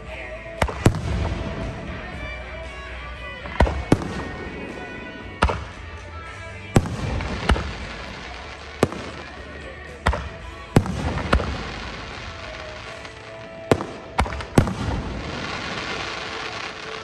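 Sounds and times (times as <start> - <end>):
fireworks bursting: 0.0 - 17.0
music playing: 0.0 - 17.0.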